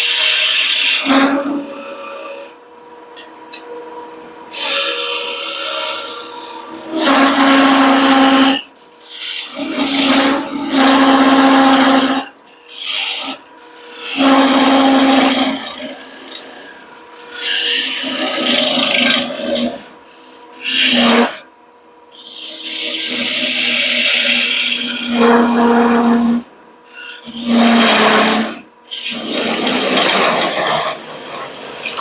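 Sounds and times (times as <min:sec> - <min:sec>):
lathe tool scraping wood: 0:00.0 - 0:02.5, 0:04.5 - 0:21.5, 0:22.1 - 0:32.0
lathe hum: 0:00.0 - 0:21.5, 0:22.1 - 0:32.0.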